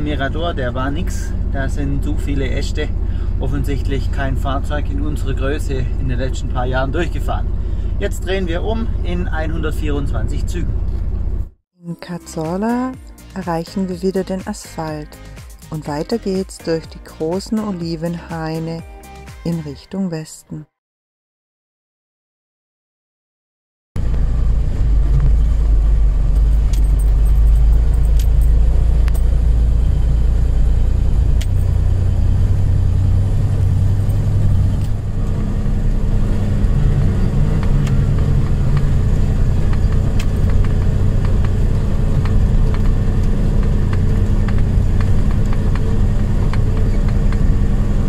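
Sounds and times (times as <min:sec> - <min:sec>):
diesel truck engine running: 0:00.0 - 0:19.2, 0:24.0 - 0:48.0.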